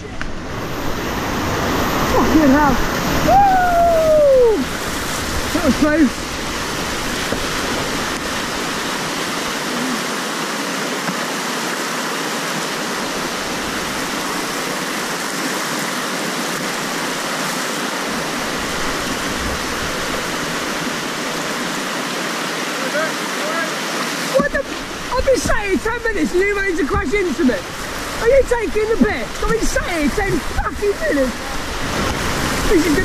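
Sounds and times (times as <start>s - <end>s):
whitewater rapids rushing: 0.0s - 33.0s.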